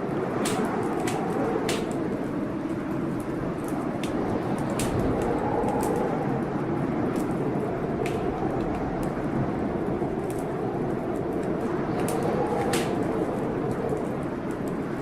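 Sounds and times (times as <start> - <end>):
blizzard wind howling: 0.0 - 15.0
wood fire crackling: 0.0 - 15.0.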